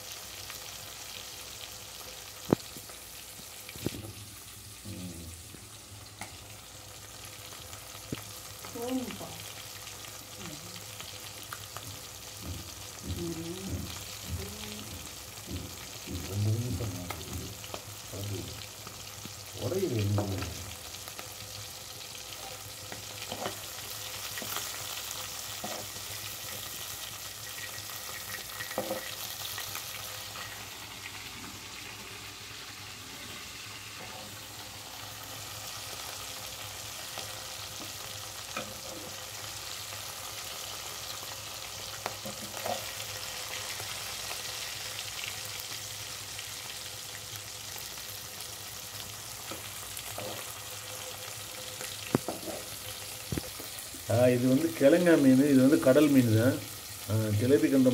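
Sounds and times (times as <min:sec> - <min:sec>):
fish sizzling in hot oil: 0:00.0 - 0:57.9.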